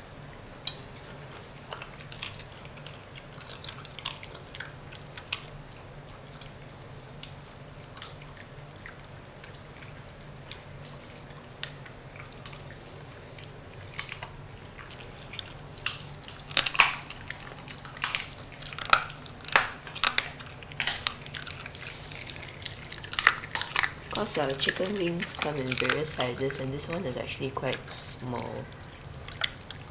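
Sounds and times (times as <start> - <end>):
dog crunching bones: 0.0 - 29.9
low steady hum: 0.0 - 29.9.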